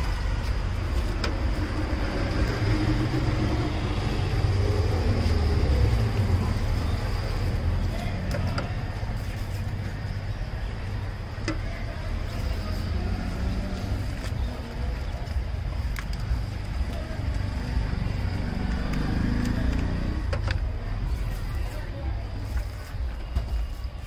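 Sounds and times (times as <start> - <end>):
passing traffic rumble: 0.0 - 24.0.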